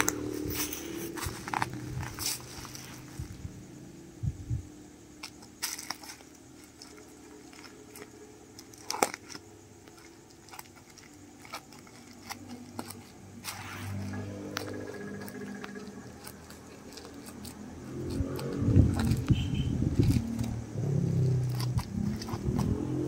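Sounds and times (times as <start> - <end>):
plastic crinkling: 0.0 - 3.4, 5.2 - 20.6.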